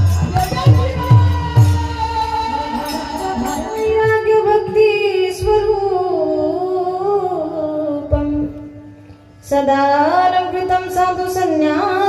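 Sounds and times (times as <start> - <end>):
steady musical accompaniment: 0.0 - 12.0
woman singing devotional song: 0.0 - 12.0.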